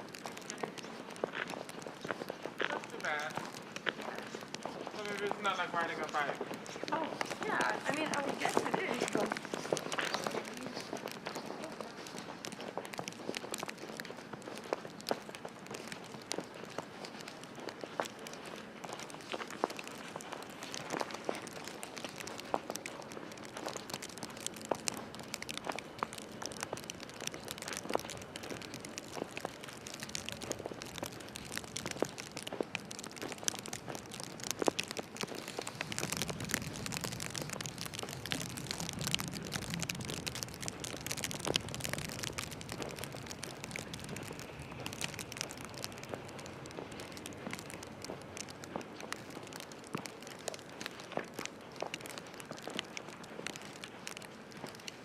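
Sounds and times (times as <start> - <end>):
footsteps crunching on snow: 0.0 - 55.0.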